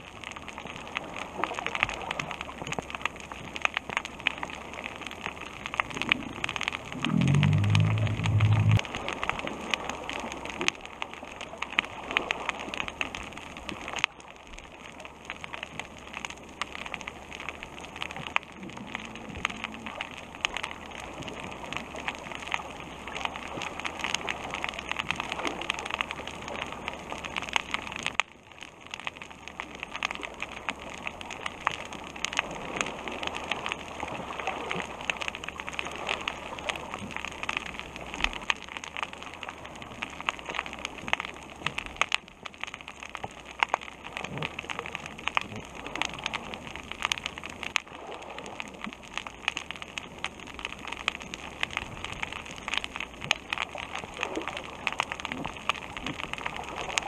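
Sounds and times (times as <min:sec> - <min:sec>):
snapping shrimp clicks underwater: 0:00.3 - 0:57.0.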